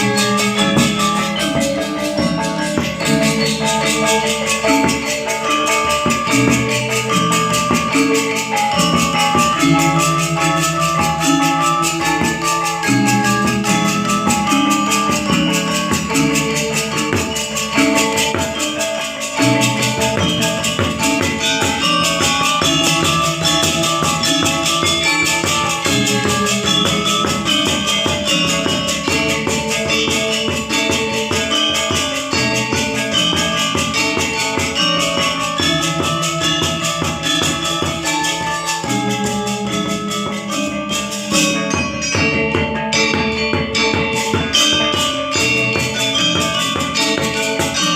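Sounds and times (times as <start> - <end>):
metallophones and gongs striking: 0.0 - 47.9
small cymbals shimmering: 0.0 - 47.9.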